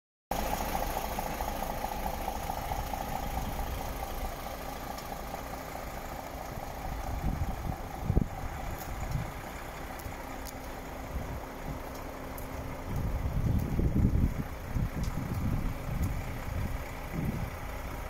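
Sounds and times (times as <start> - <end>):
truck diesel engine idling: 0.3 - 18.0.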